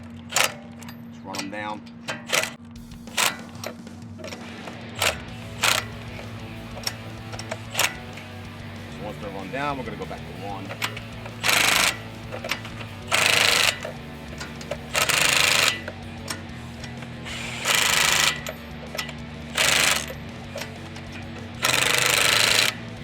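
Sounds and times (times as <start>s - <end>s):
impact wrench hammering: 1.4s - 23.0s.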